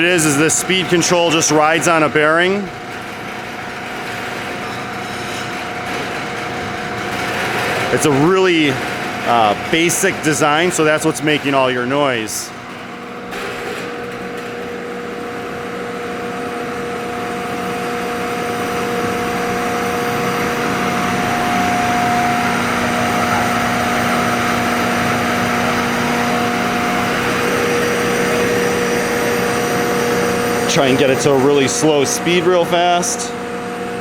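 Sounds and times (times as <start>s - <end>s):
planer running empty: 0.0s - 34.0s.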